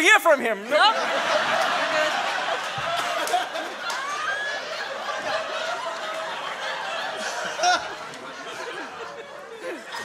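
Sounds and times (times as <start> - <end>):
audience laughing: 0.6 - 10.0.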